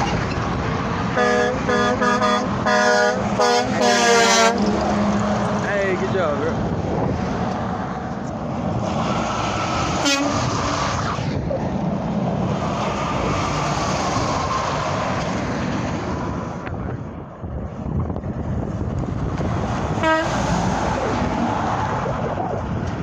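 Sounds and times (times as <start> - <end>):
trucks passing on highway: 0.0 - 23.0.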